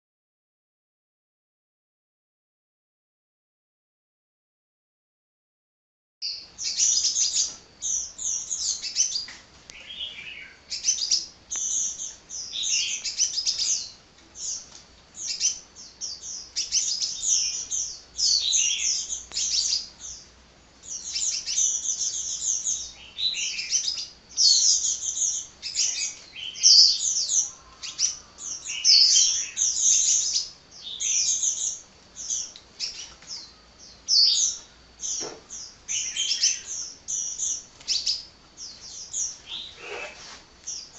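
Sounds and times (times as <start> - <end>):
sunbird chattering song: 6.2 - 40.9.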